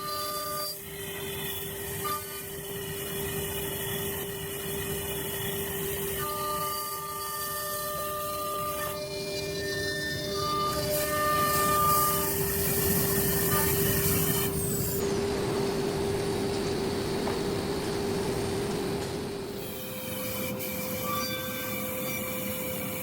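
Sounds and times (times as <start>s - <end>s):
machine motor whine: 0.0s - 23.0s.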